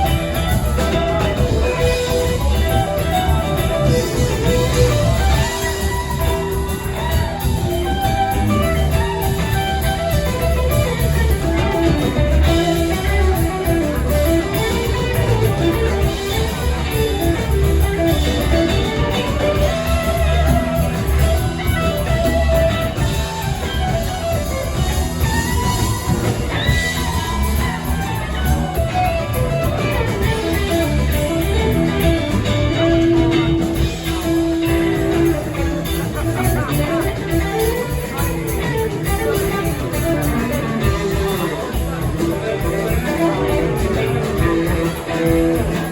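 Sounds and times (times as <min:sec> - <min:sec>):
bass guitar: 0:00.0 - 0:45.9
drums: 0:00.0 - 0:45.9
electric guitar lead lines: 0:00.0 - 0:45.9.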